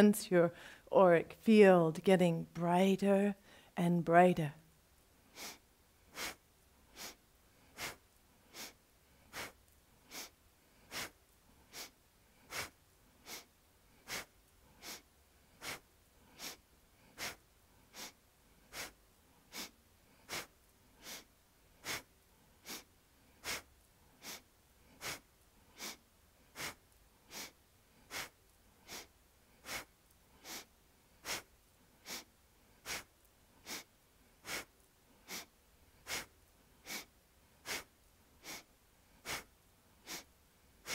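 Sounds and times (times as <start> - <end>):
sharp rhythmic breathing: 0.5 - 0.9, 3.1 - 3.8, 5.2 - 40.9.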